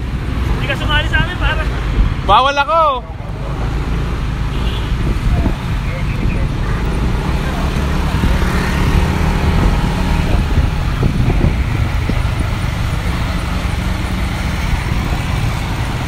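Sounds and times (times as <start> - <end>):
road and traffic noise: 0.0 - 16.0
motorcycle engine rumble: 3.0 - 16.0.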